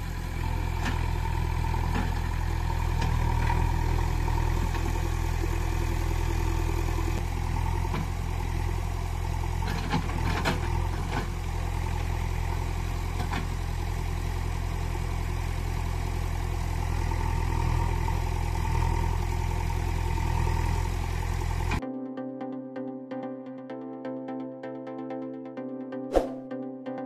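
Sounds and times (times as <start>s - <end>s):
engine idling low rumble: 0.0s - 21.8s.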